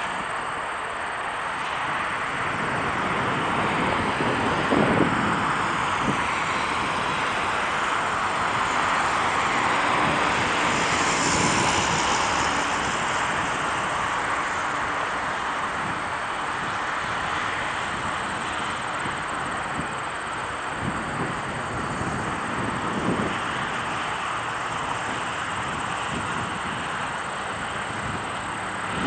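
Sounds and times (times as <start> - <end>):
jet engines rushing overhead: 0.0 - 29.0.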